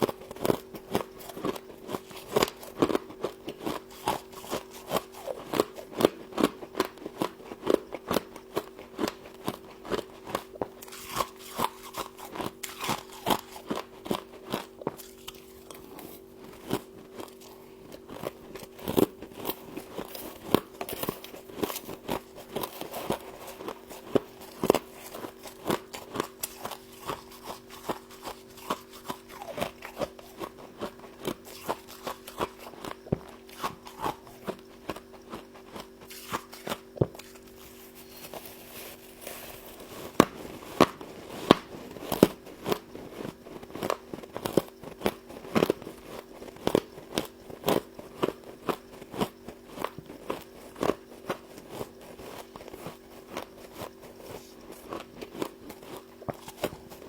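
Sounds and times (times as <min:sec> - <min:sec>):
frost crunching being chewed: 0:00.0 - 0:57.0.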